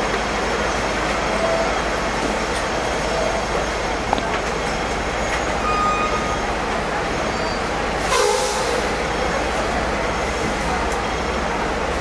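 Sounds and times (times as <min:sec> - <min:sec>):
tram rumble and hum: 0:00.0 - 0:12.0.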